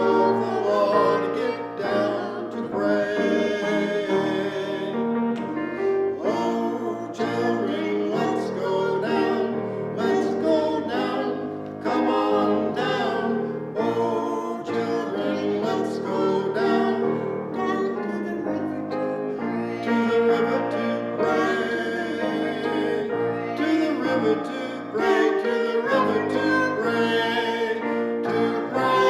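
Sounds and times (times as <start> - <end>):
hymn singing: 0.0 - 29.0
instrumental accompaniment: 0.0 - 29.0.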